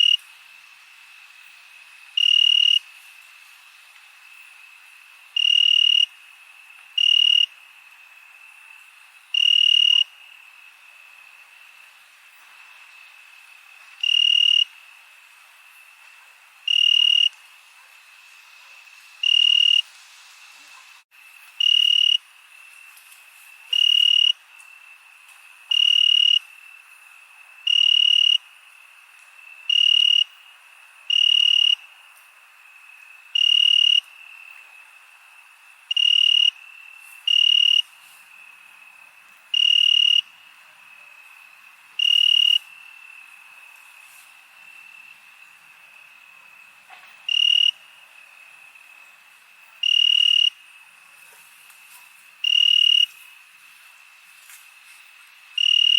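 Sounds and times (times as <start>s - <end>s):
cricket trilling: 0.0s - 20.5s, 21.2s - 55.9s
high insect drone: 0.0s - 55.9s.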